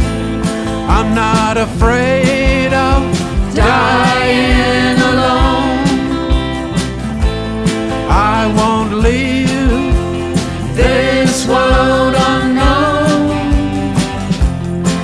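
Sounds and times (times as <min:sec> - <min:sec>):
band playing live: 0:00.0 - 0:15.0
steady drum beat: 0:00.0 - 0:15.0.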